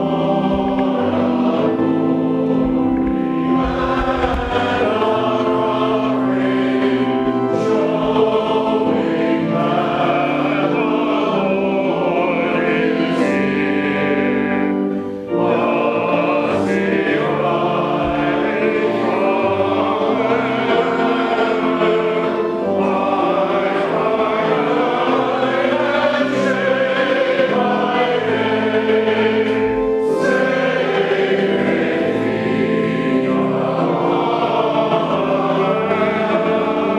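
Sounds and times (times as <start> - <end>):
choir singing: 0.0 - 36.9.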